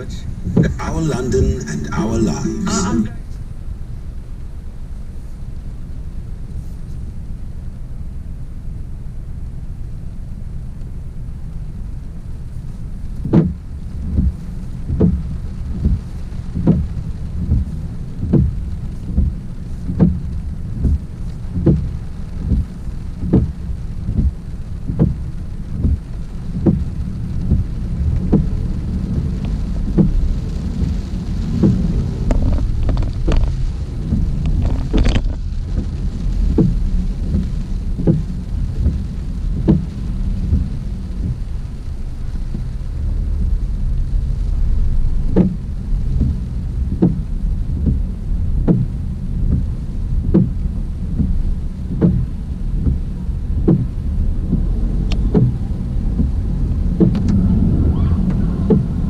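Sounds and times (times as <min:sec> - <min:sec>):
windscreen wipers knocking: 0:00.0 - 0:01.6, 0:13.2 - 0:59.0
low rumble of road and rain: 0:00.0 - 0:59.0.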